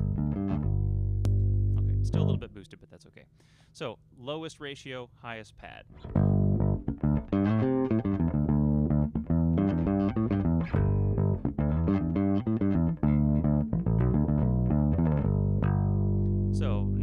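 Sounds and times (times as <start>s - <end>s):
electric bass plucked fingerstyle: 0.0s - 2.6s, 5.9s - 17.0s.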